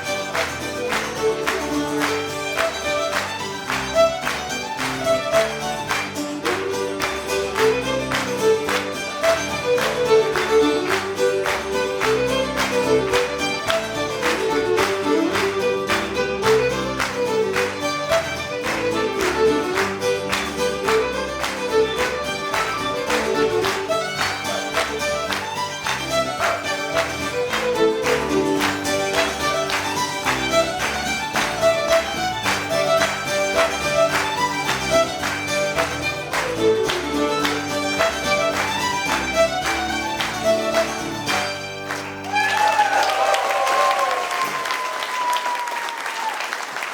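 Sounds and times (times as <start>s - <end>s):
band keeping steady beat: 0.0s - 41.6s
fiddle playing lively tune: 0.0s - 42.6s.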